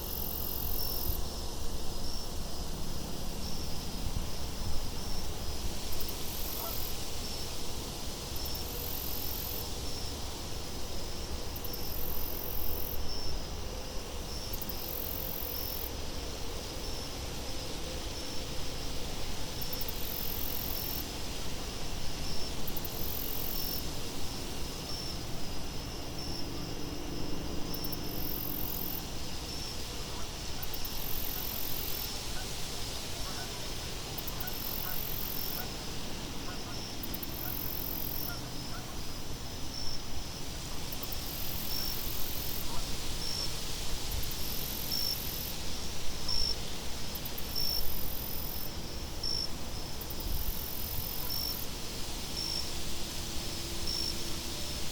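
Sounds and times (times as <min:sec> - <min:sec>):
crickets chirping: 0:00.0 - 0:54.9
high insect trill: 0:00.0 - 0:54.9.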